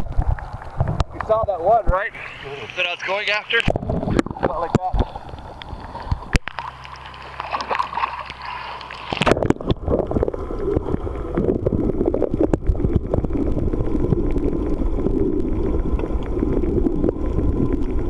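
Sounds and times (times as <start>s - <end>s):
muffled underwater rush: 0.0s - 18.0s
sea water lapping: 0.0s - 18.0s.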